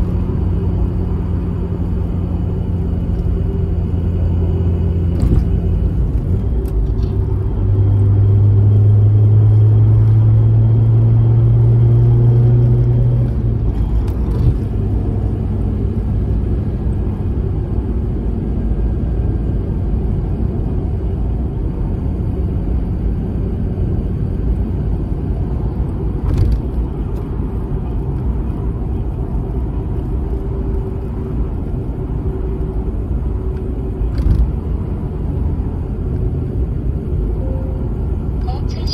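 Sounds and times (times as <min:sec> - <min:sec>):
car engine: 0:00.0 - 0:38.9
road noise: 0:00.0 - 0:38.9.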